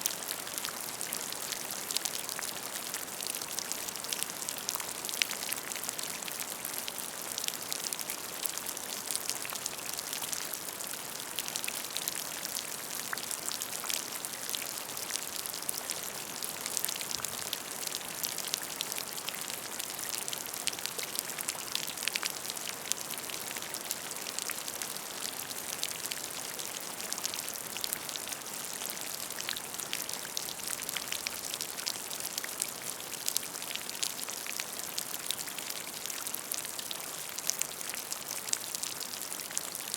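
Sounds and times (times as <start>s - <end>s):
rain falling on a puddle: 0.0s - 39.9s.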